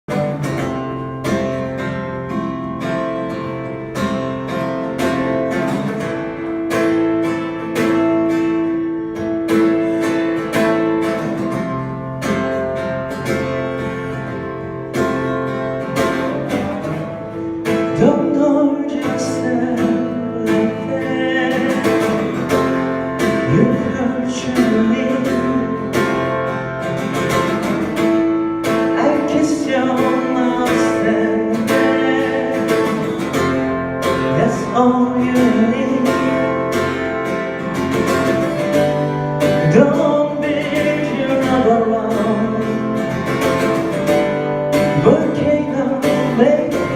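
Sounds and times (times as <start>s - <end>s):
acoustic guitar strummed: 0.1s - 46.9s.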